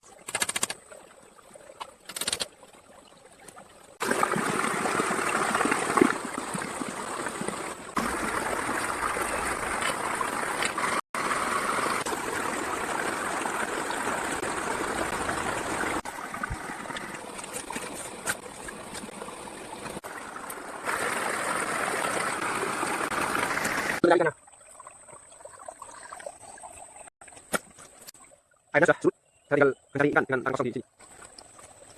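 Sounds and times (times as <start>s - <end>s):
stream water trickling: 0.0s - 31.9s.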